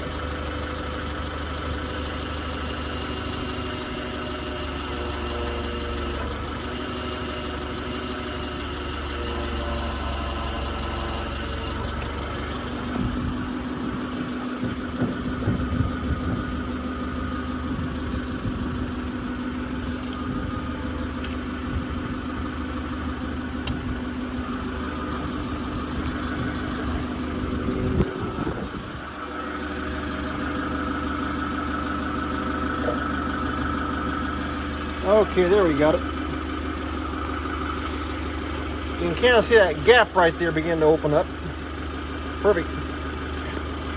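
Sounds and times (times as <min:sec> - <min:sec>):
forklift engine running: 0:00.0 - 0:43.9
steady higher hum: 0:02.0 - 0:40.9.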